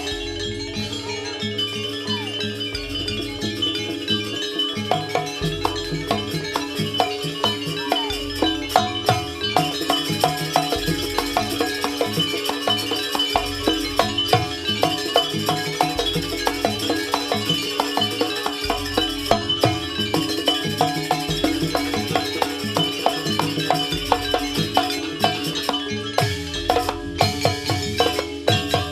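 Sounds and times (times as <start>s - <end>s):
drums and metal percussion ensemble: 0.0s - 28.9s.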